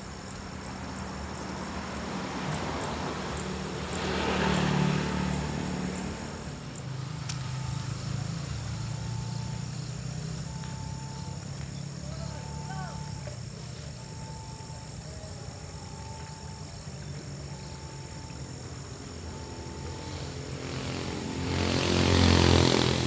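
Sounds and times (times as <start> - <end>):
insects trilling: 0.0 - 23.0
broad noise: 3.8 - 23.0.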